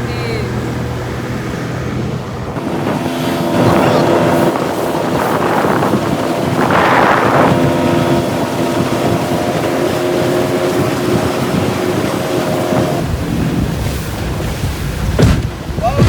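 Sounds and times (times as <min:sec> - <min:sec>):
speedboat engine running: 0:00.0 - 0:16.0
wind buffeting microphone: 0:00.0 - 0:16.0
surges of rushing noise: 0:00.7 - 0:16.0.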